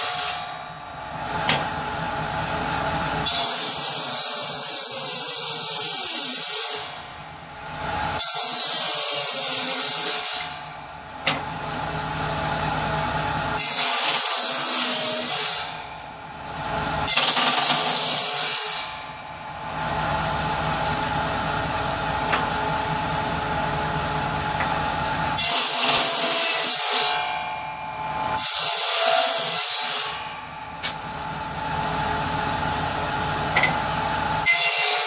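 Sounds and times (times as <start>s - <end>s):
power saw cutting wood: 0.0s - 35.0s.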